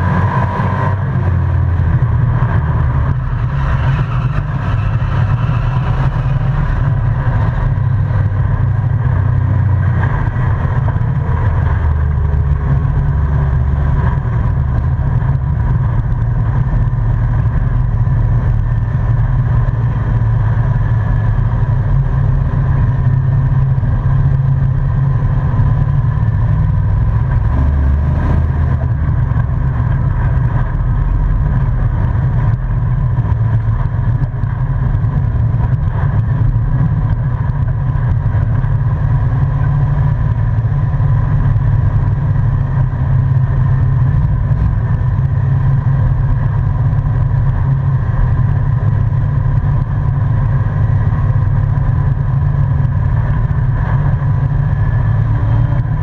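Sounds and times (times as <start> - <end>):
race truck engine from inside cab: 0.0 - 56.0.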